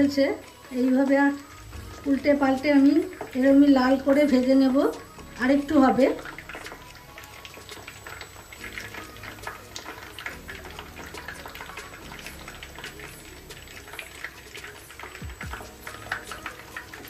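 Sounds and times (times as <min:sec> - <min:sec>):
dough deep-frying in oil: 0:00.0 - 0:17.0.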